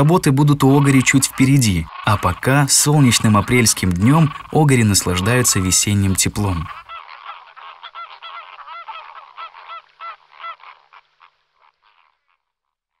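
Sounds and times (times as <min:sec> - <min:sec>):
waterbirds honking: 0:00.0 - 0:12.6.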